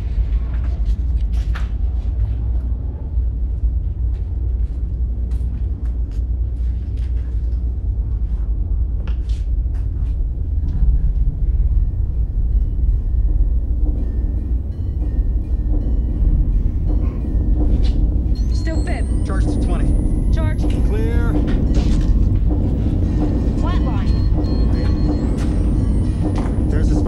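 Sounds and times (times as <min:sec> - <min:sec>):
low rumbling drone: 0:00.0 - 0:27.0.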